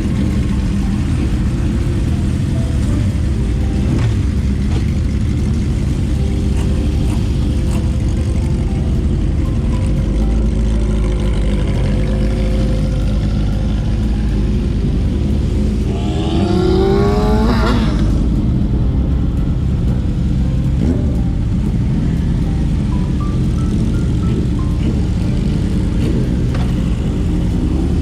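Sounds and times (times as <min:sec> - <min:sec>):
motorcycle engines running: 0:00.0 - 0:28.0
motorcycle revving: 0:00.0 - 0:28.0.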